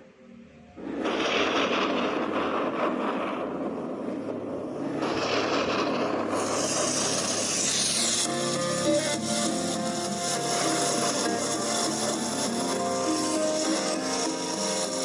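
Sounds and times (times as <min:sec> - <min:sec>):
steady rushing noise: 0:00.7 - 0:15.0.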